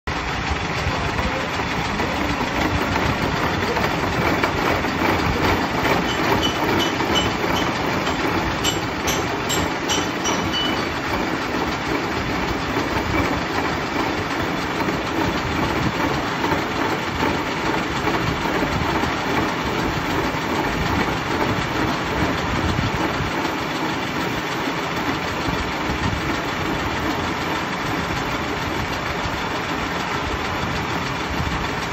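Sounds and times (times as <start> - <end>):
gear-cutting machine running: 0.1 - 31.9.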